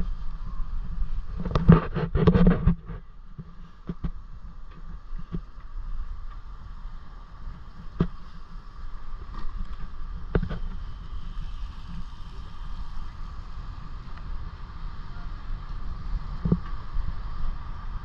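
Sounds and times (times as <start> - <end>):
wind rumbling on microphone: 0.0 - 18.0
steady hiss: 3.6 - 18.0.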